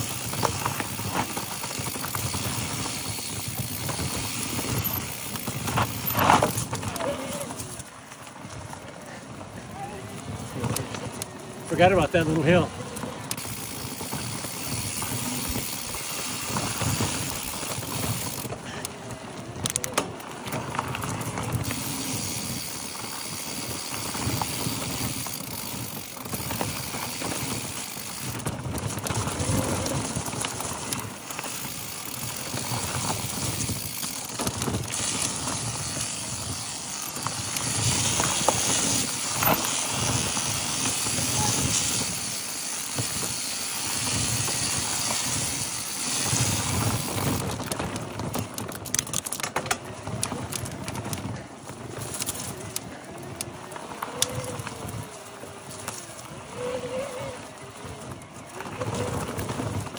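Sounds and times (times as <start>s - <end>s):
bike rattling and knocking: 0.0s - 59.9s
bike tyres crunching over dirt: 0.0s - 59.9s.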